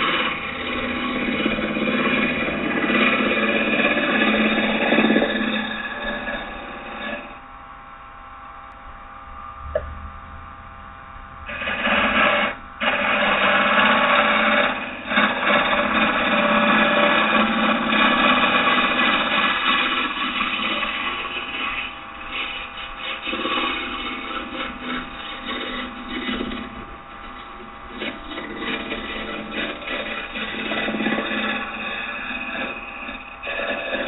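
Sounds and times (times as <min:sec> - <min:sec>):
lathe tool scraping wood: 0:00.0 - 0:07.5, 0:11.2 - 0:34.0
lathe motor hum: 0:00.0 - 0:34.0.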